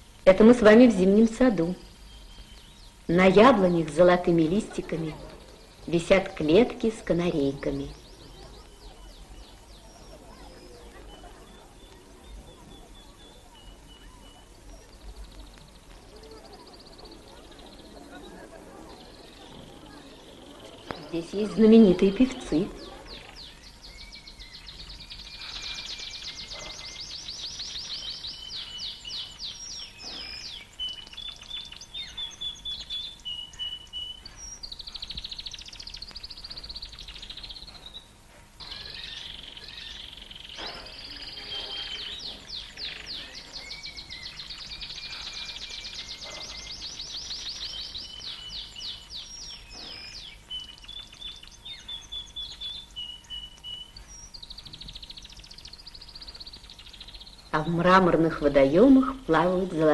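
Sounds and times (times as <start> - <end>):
canaries singing trills: 0.0 - 59.9.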